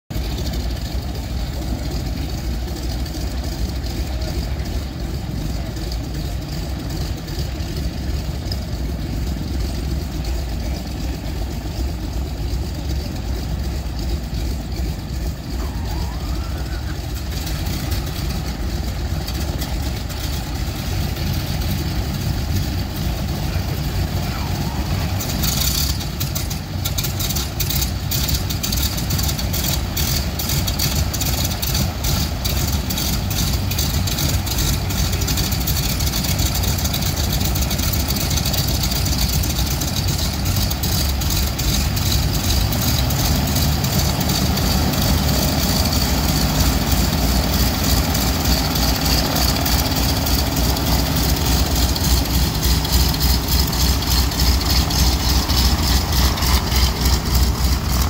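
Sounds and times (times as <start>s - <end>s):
engine popping firing strokes: 0.1s - 58.0s
radial aircraft engines running: 0.1s - 58.0s.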